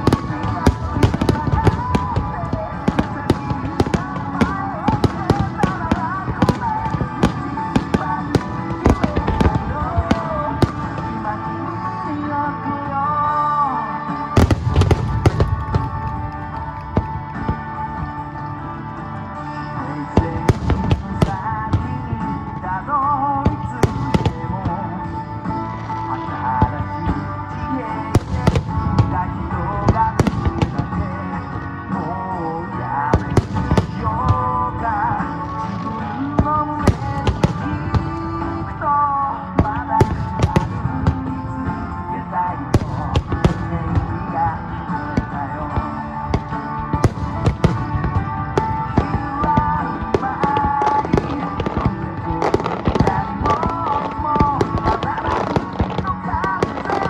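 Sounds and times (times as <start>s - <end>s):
fireworks bursting: 0.0s - 11.7s, 14.3s - 31.8s, 32.8s - 42.0s, 42.6s - 57.0s
song playing loudly: 0.0s - 57.0s.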